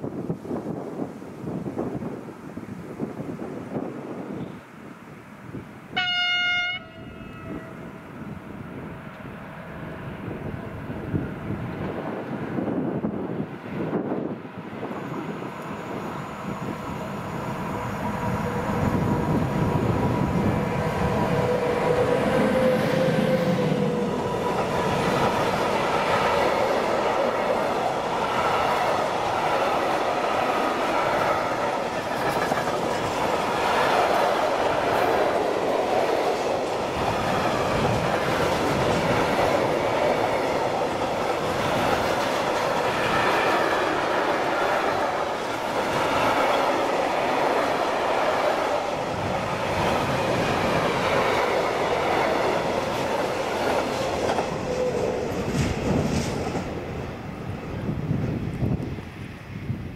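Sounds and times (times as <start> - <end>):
freight train wheels rumbling on rails: 6.8 - 59.9.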